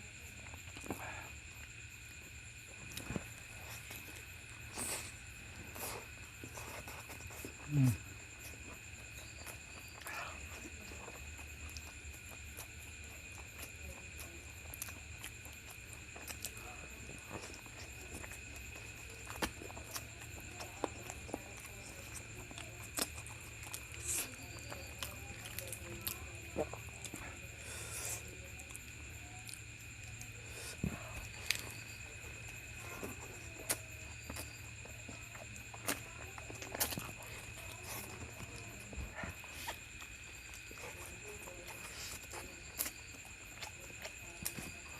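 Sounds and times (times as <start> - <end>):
person chewing: 0.4 - 44.9.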